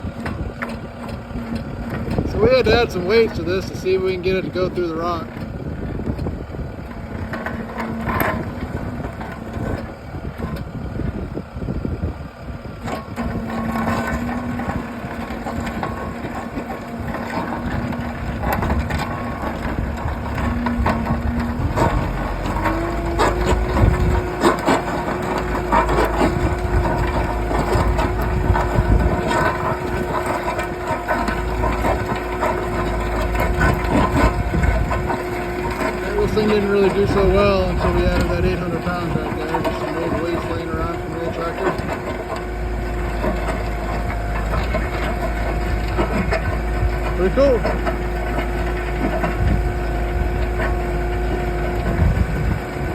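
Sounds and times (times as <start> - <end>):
earth auger engine under load: 0.0 - 52.9
rock and soil crunching: 0.0 - 52.9.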